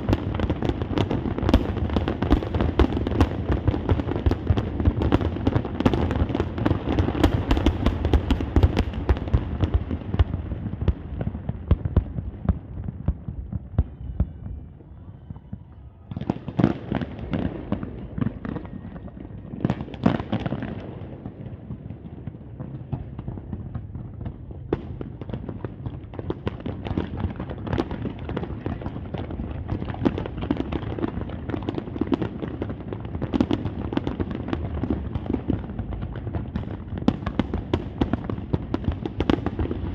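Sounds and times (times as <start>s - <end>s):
fireworks booming and crackling: 0.0s - 39.9s.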